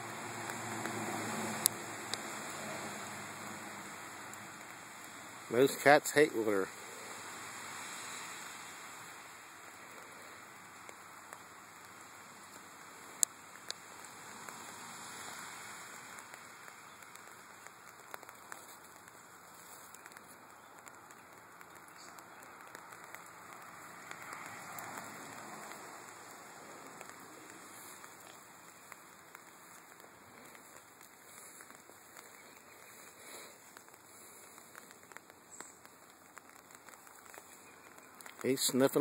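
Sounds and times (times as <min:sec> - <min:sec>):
light rain pattering: 0:00.0 - 0:39.0.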